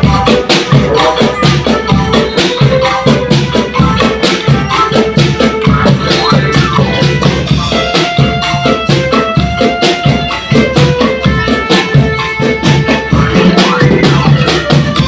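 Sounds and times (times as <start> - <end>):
marching band drums: 0.0 - 15.0
marching band melody: 0.0 - 15.0.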